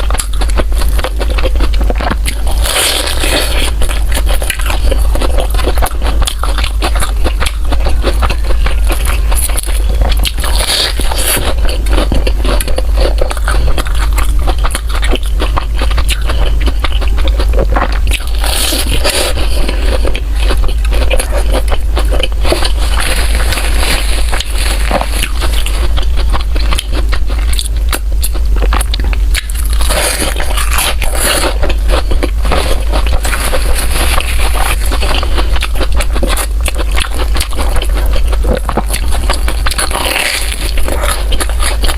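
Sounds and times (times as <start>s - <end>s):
biting and chewing bread: 0.0s - 41.9s
steady low hum: 0.0s - 41.9s.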